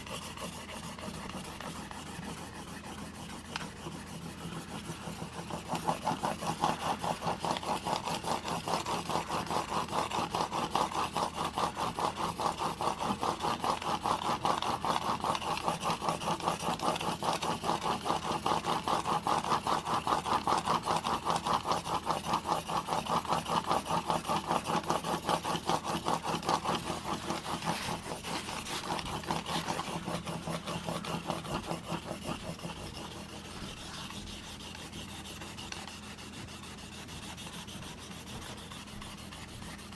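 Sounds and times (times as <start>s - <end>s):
blade rasping on sharpening plate: 0.0s - 39.9s.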